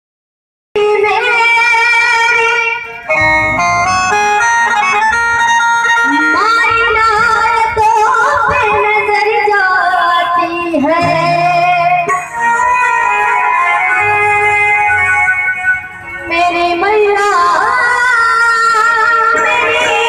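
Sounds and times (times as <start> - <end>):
electronic keyboard melody: 0.8 - 20.0.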